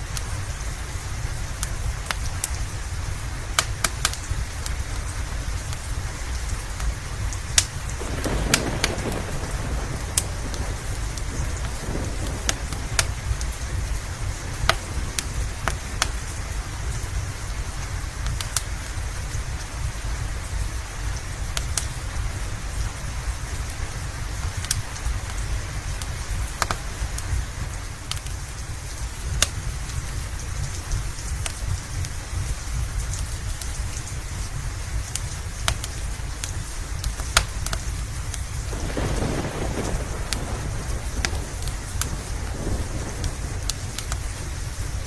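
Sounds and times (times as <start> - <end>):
steady rain: 0.0 - 45.0
wood fire crackling and popping: 0.0 - 45.0.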